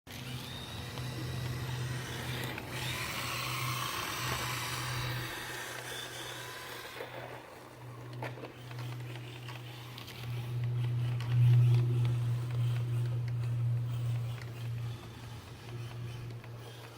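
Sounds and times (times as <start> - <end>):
toy car electric motor whining: 0.1 - 16.9.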